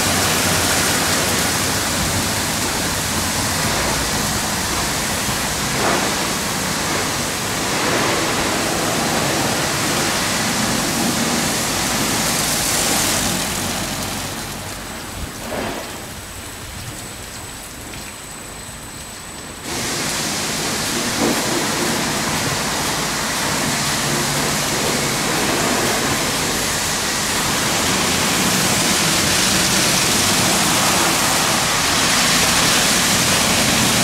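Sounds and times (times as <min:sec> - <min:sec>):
car wash brushes and water rushing: 0:00.0 - 0:34.0.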